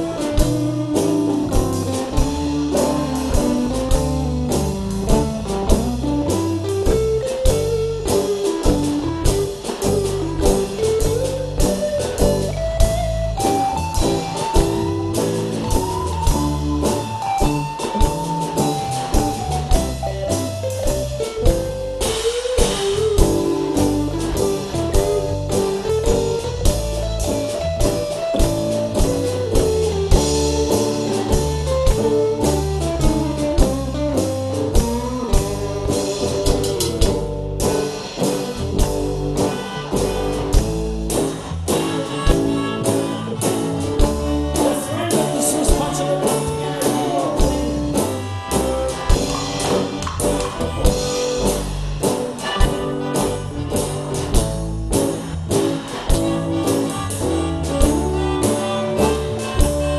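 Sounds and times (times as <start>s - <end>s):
drum kit beating: 0.0s - 59.9s
live band playing: 0.0s - 59.9s.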